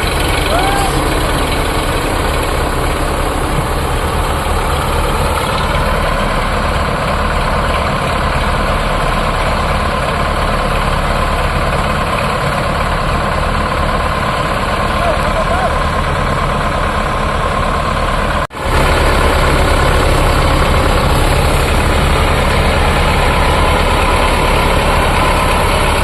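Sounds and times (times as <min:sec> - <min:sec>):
tractor diesel engine rumbling: 0:00.0 - 0:26.0.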